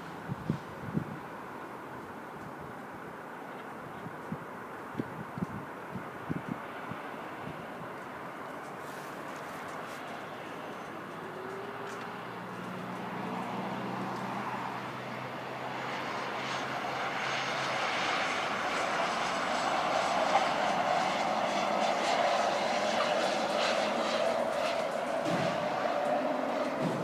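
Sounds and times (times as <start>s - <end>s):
turboprop engines droning: 5.1s - 27.0s.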